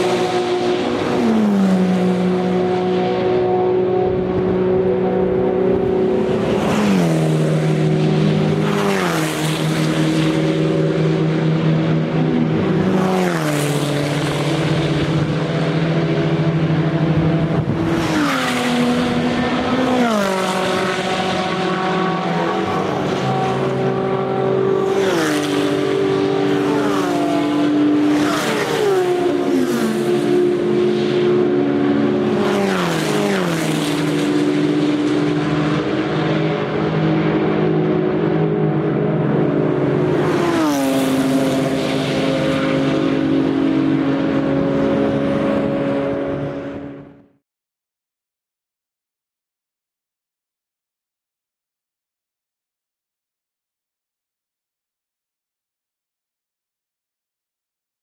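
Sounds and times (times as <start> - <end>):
race cars passing at speed: 0.0 - 47.4.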